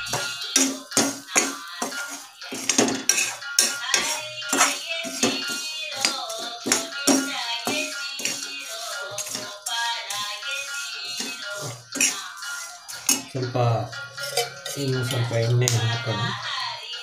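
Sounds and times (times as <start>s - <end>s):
steel spatula scraping a pan: 0.0s - 16.4s
background music: 0.0s - 17.0s.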